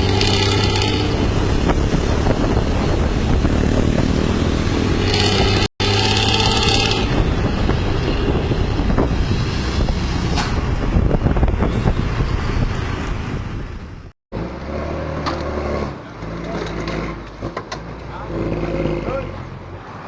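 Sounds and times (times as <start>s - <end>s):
bus diesel engine with loud exhaust: 0.0s - 20.0s.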